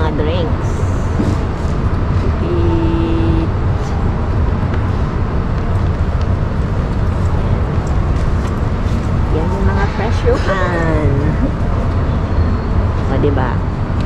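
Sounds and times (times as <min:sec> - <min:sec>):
low machinery rumble: 0:00.0 - 0:14.0.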